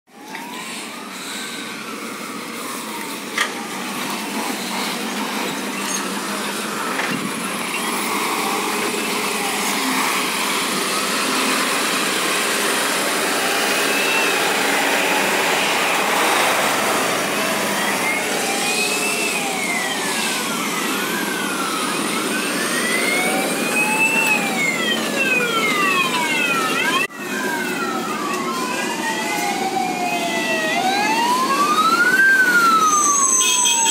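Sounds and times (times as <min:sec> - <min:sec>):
fire engine sirens wailing: 0:00.1 - 0:33.9
road noise: 0:00.2 - 0:33.9
truck engines running: 0:00.2 - 0:33.9.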